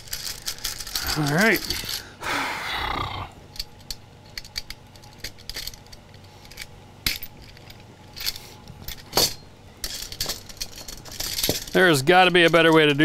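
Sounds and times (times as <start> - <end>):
metal hardware clinking: 0.0 - 2.1, 3.5 - 13.0.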